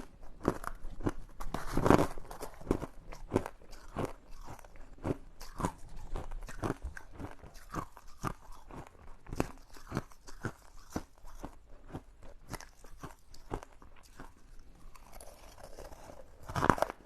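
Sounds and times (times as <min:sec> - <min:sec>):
ice cubes being chewed: 0:00.0 - 0:17.0.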